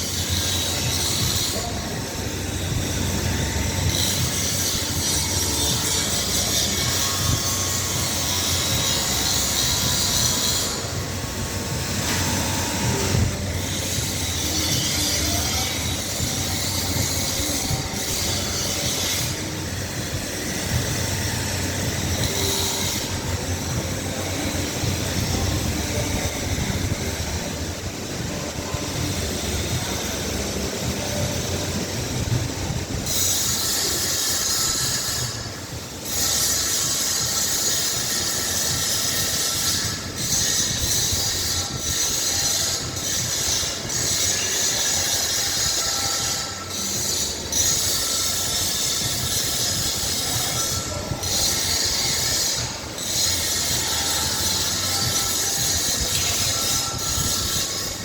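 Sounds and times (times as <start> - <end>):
hissing squealing machine noise: 0.0 - 58.0.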